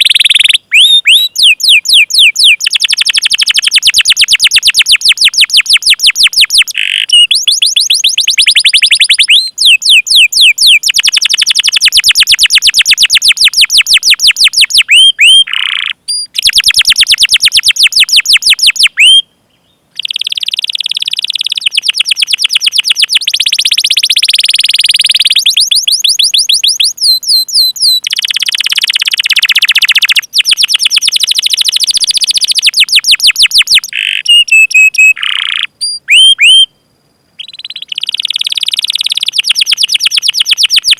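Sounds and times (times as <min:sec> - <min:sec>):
canary singing trills: 0:00.0 - 0:36.8, 0:37.4 - 0:40.9.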